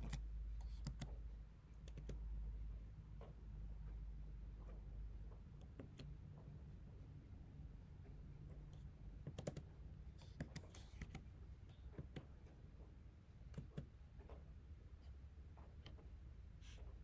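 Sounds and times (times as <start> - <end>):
faint clicks and taps: 1.8 - 6.8, 8.0 - 17.0.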